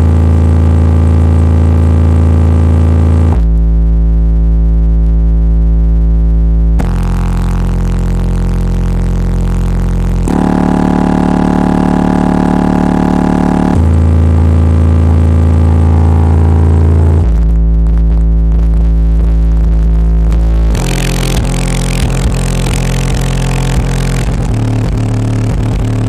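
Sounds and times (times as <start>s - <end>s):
bass-heavy electronic music: 0.0s - 26.0s.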